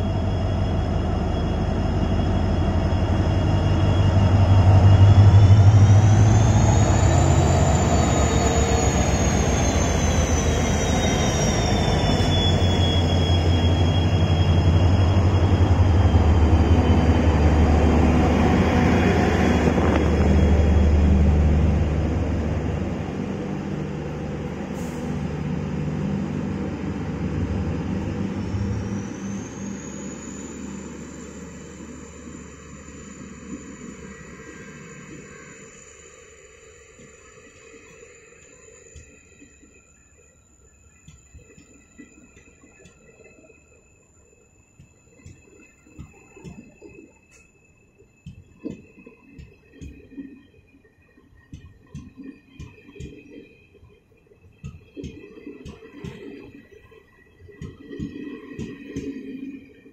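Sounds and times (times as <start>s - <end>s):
diesel locomotive accelerating: 0.0s - 50.2s
high whine: 0.0s - 50.7s.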